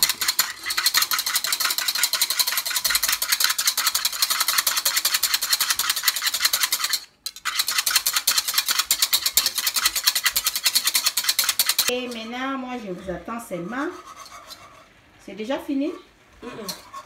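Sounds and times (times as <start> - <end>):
whisk beating in plastic bowl: 0.0 - 14.9.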